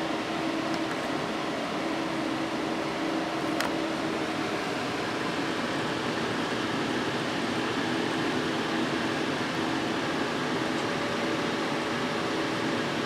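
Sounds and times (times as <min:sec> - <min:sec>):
cooling fans running: 0:00.0 - 0:13.0.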